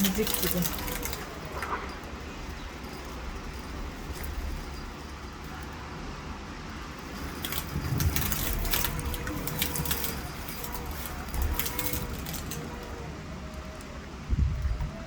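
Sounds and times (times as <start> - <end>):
heavy rain pouring: 0.0 - 15.0
raindrops ticking on a surface: 0.0 - 15.0.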